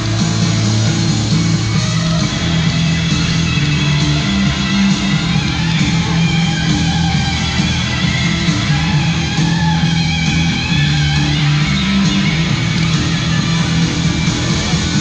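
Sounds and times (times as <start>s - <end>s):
rock music: 0.0s - 15.0s
steady bass line: 0.0s - 15.0s.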